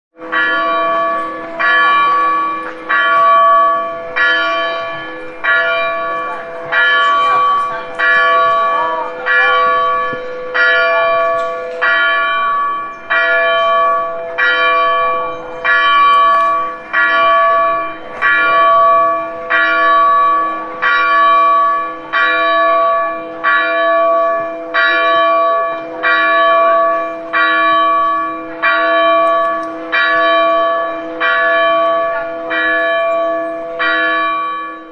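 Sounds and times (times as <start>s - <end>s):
church bell ringing: 0.2s - 34.9s.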